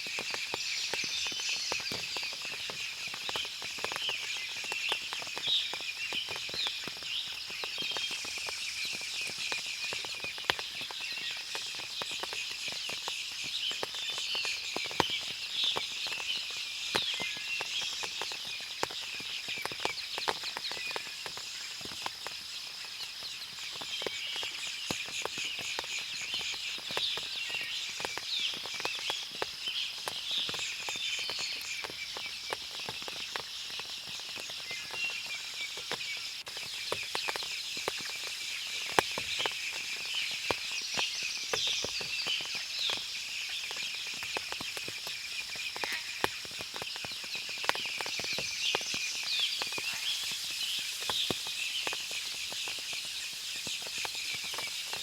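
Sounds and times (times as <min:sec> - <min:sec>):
birds chirping: 0:00.0 - 0:55.0
insect chorus: 0:00.0 - 0:55.0
water dripping from leaves: 0:00.0 - 0:55.0.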